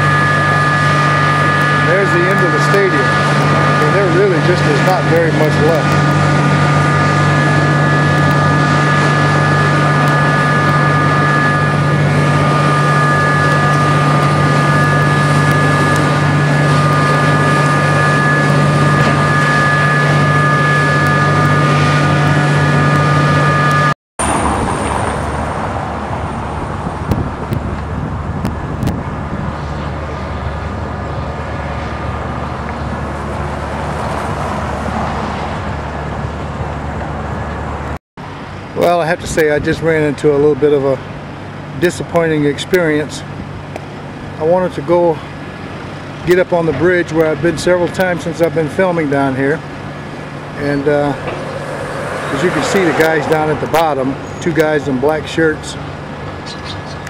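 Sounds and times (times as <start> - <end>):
constant whine: 0.0 - 57.0
engine drone: 0.0 - 57.0
outdoor traffic noise: 0.0 - 57.0.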